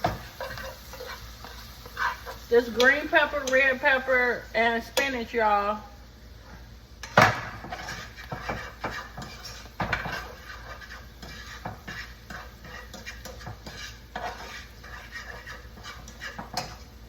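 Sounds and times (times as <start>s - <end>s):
spoon stirring and scraping pot: 0.0s - 5.6s, 6.3s - 17.0s.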